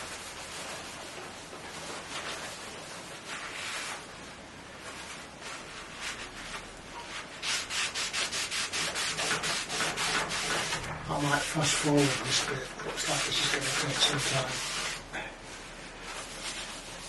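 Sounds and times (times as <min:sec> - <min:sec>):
paper scrubbing metal table: 0:00.0 - 0:17.0.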